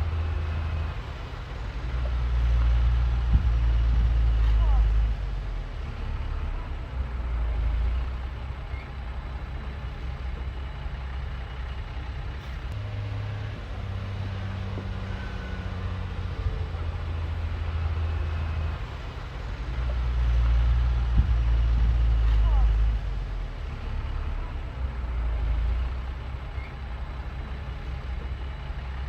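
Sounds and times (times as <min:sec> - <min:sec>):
bulldozer diesel engine droning: 0:00.0 - 0:29.0.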